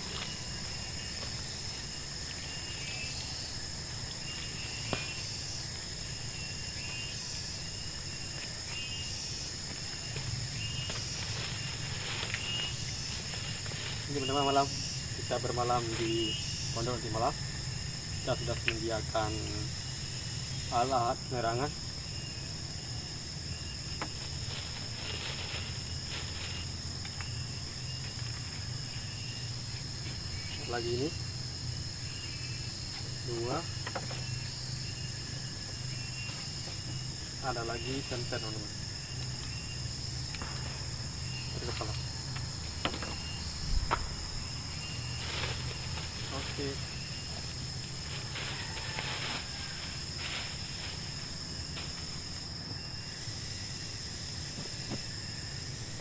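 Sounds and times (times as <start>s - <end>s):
crickets trilling: 0.0s - 56.0s
insect chirping notes: 0.0s - 56.0s
insects high-pitched drone: 0.0s - 56.0s.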